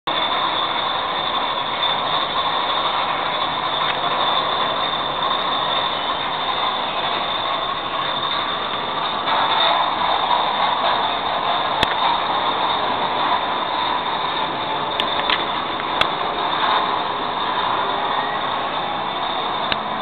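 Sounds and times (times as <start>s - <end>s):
bottling machinery running: 0.1s - 20.0s
high machine whine: 0.1s - 20.0s.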